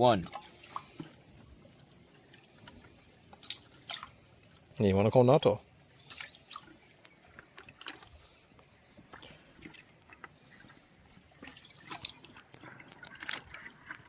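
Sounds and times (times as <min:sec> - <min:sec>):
water dripping and splashing: 0:00.0 - 0:14.0.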